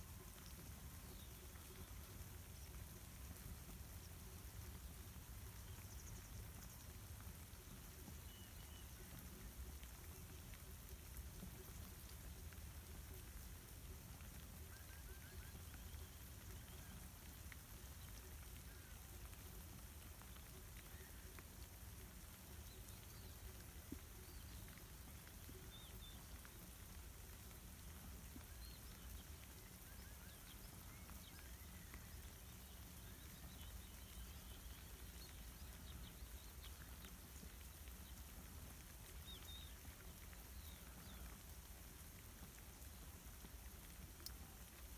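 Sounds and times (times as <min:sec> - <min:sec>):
light rain: 0:00.0 - 0:44.9.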